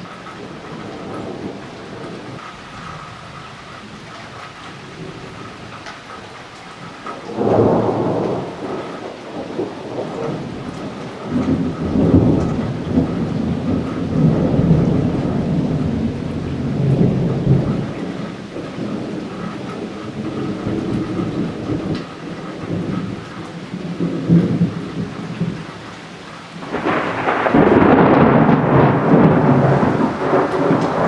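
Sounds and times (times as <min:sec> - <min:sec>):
thunder rumbling: 0:00.0 - 0:31.0.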